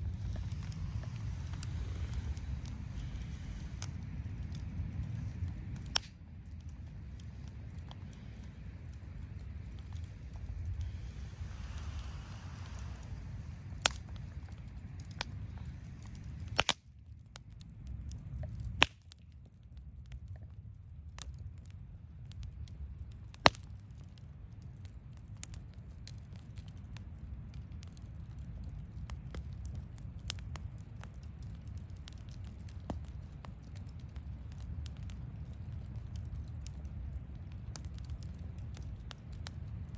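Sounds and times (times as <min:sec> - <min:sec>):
campfire crackling and popping: 0:00.0 - 0:39.9
low steady fire rumble: 0:00.0 - 0:39.9.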